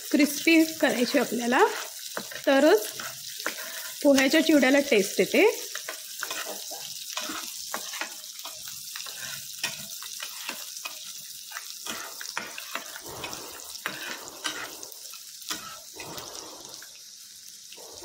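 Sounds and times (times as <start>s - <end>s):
garlic and chillies sizzling in oil: 0.0s - 18.0s
spatula scraping a pan: 0.9s - 4.4s, 5.6s - 17.0s.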